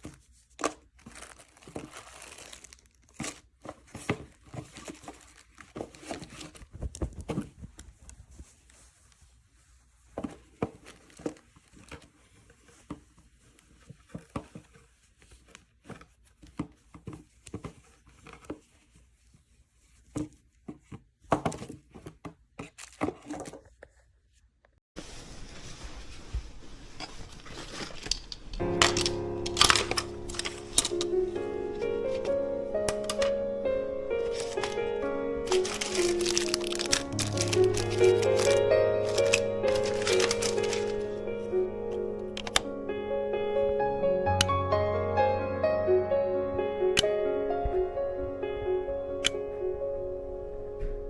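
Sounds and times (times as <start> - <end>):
packaging crinkling and rustling: 0.0 - 20.9, 21.5 - 24.0, 25.0 - 42.7.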